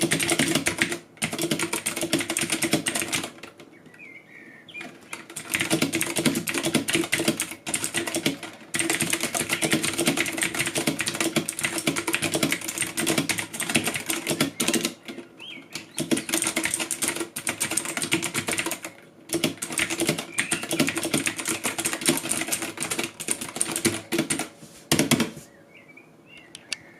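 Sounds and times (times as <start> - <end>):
fast typing on mechanical keyboard: 0.0 - 3.6, 4.8 - 25.4.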